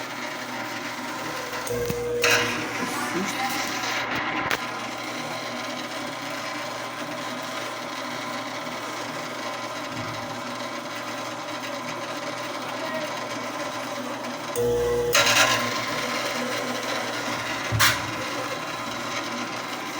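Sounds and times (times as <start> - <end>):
washing machine whirring hum: 0.0 - 19.9.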